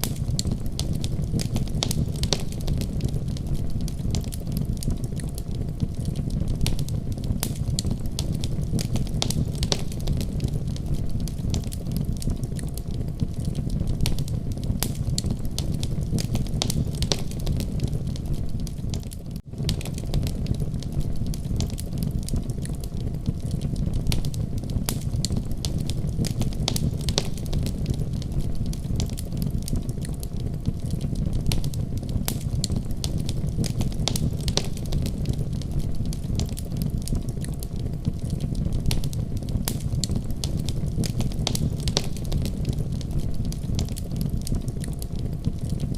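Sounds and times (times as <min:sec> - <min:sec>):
fire crackling and popping: 0:00.0 - 0:45.9
low rumble of flames: 0:00.0 - 0:45.9.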